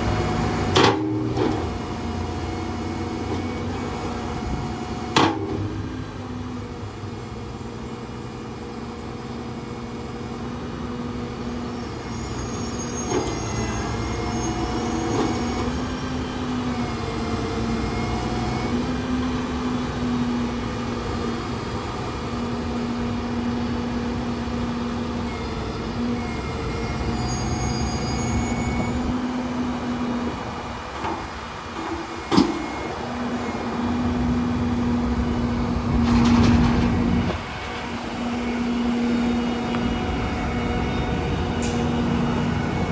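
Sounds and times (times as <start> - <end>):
truck engine hum: 0.0 - 42.9.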